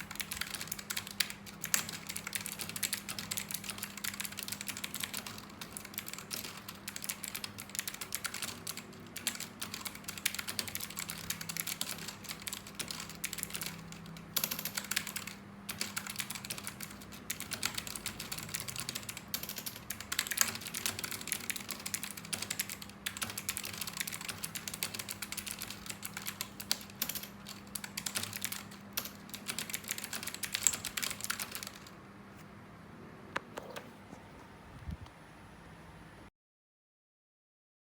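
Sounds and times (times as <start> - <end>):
fast typing on keyboard: 0.0 - 32.0
faint steady hum: 0.0 - 36.3.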